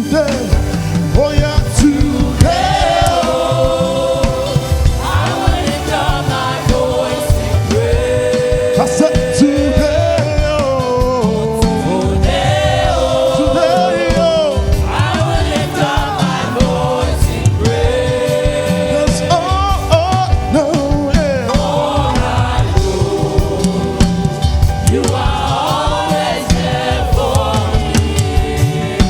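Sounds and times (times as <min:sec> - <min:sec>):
gospel choir singing: 0:00.0 - 0:29.0
live band playing: 0:00.0 - 0:29.0
steady drum beat: 0:00.0 - 0:29.0.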